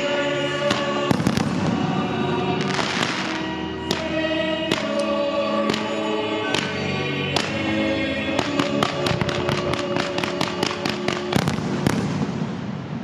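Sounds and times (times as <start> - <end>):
choral music: 0.0 - 13.0
fireworks bursts banging: 0.6 - 7.6, 8.3 - 13.0.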